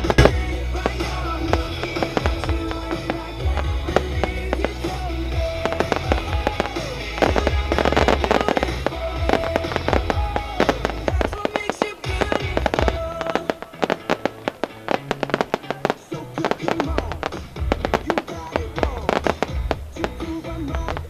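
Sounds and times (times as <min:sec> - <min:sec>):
fireworks bangs and crackles: 0:00.0 - 0:21.0
pop music with bass line: 0:00.0 - 0:21.0.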